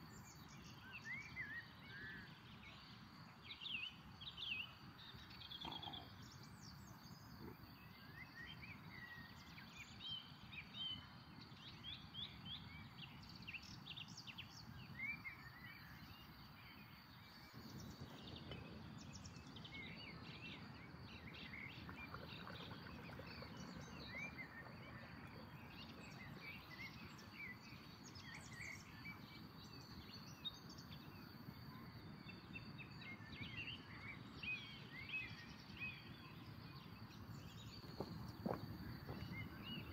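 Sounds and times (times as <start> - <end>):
faint outdoor background noise: 0.0 - 39.9
small birds chirping: 0.1 - 39.9.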